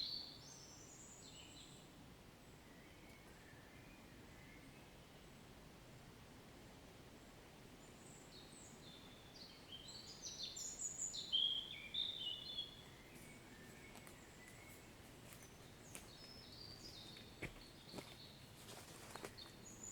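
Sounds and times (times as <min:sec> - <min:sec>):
songbird singing: 0:00.0 - 0:06.1, 0:07.2 - 0:19.9
faint steady hiss: 0:00.0 - 0:19.9.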